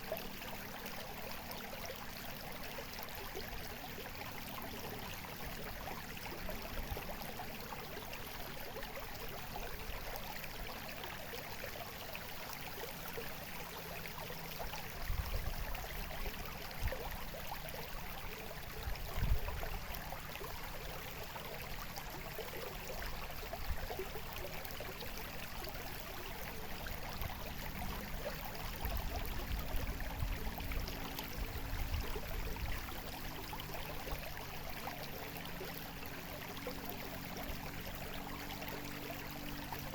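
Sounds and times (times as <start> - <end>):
trickling babbling water: 0.0 - 39.9.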